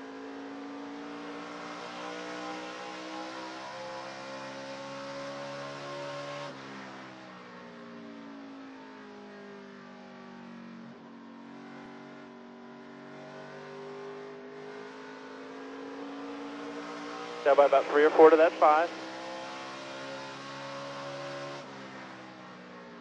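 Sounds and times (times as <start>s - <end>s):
race truck engine at full throttle: 0.0s - 8.1s, 10.2s - 23.0s.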